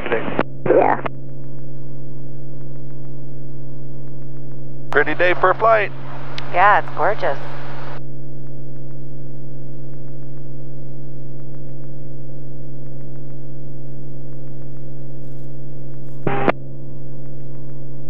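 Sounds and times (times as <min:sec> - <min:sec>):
airplane engine droning in cabin: 0:00.8 - 0:18.0.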